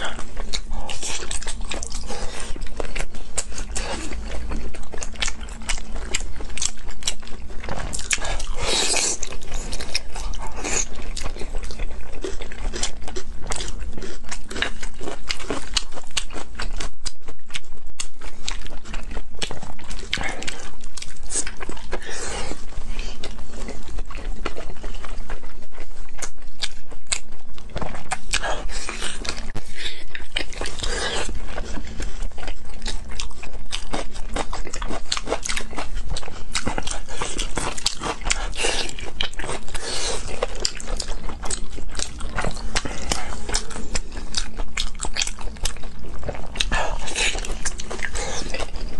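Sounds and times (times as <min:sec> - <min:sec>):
person chewing and slurping: 0:00.0 - 0:48.9.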